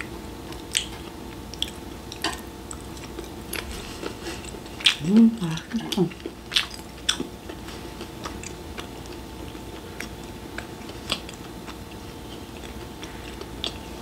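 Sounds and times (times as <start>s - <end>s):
faint steady hum: 0.0s - 14.0s
wet chewing sounds: 0.4s - 14.0s.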